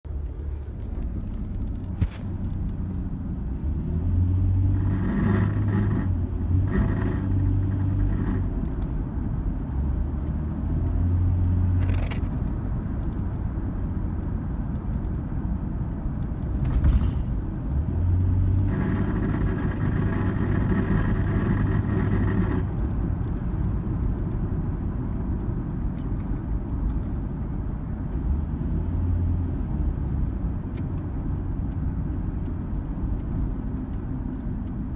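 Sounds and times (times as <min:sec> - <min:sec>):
car engine running while driving: 0:00.0 - 0:34.9.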